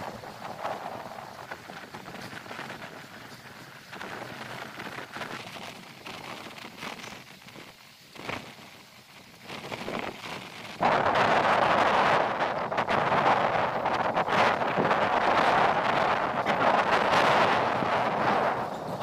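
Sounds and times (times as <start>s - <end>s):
train wheels on rails: 0.0s - 19.0s
wind buffeting microphone: 0.0s - 19.0s.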